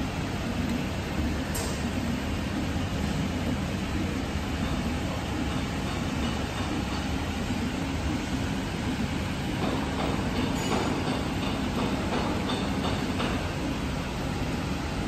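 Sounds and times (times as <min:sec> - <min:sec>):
machine mechanical hum: 0:00.0 - 0:15.0.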